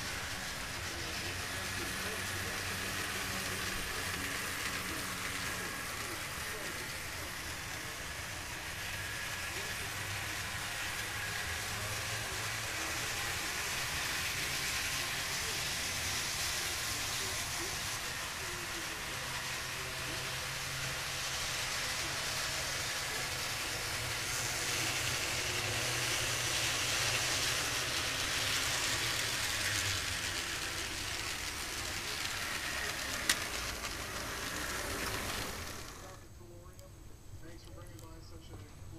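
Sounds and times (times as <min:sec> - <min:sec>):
model train whirring: 0:00.0 - 0:36.8.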